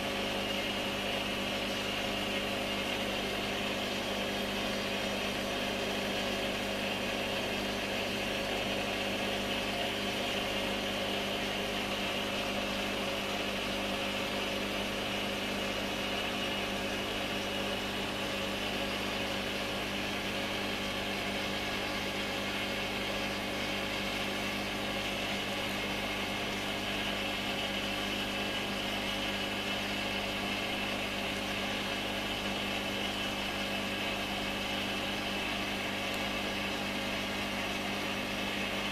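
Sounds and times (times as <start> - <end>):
aquarium pump humming: 0.0 - 38.9.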